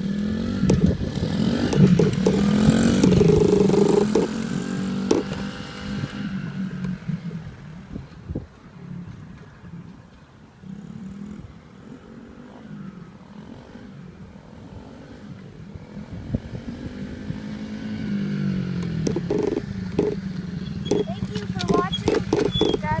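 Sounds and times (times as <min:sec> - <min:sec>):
dirt bike engine shifting gears: 0:00.0 - 0:23.0.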